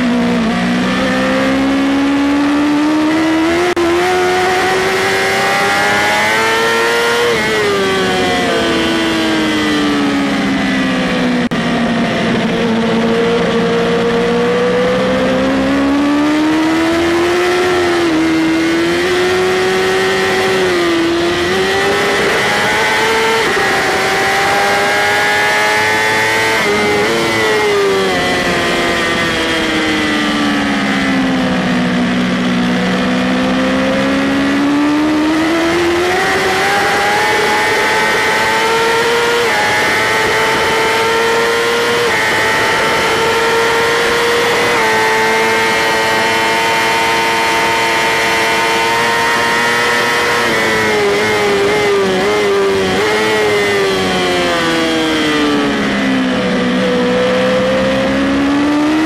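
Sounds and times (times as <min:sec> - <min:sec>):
wind noise: 0:00.0 - 0:58.9
motorcycle engine revving: 0:00.0 - 0:59.0.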